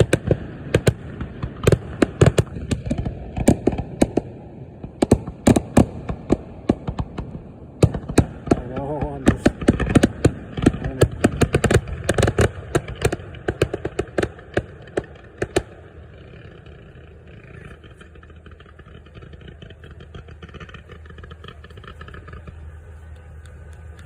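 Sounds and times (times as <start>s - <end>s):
fireworks bangs and cracks: 0.0s - 24.0s
low rumble with crackles: 0.0s - 24.0s.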